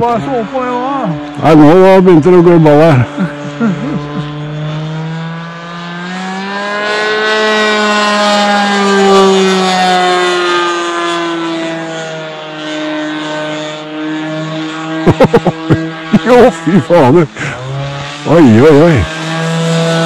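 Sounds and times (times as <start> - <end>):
model airplane motor droning: 0.0 - 20.0.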